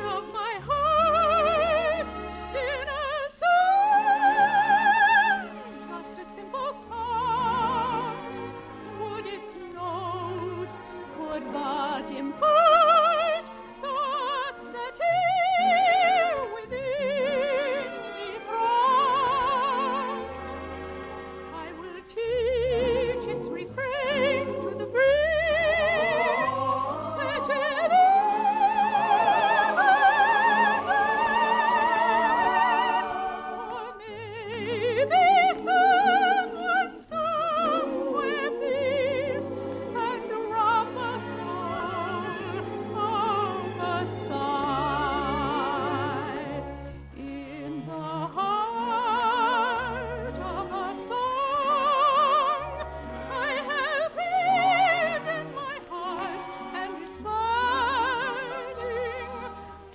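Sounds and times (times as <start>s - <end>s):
operatic soprano singing: 0.0s - 59.9s.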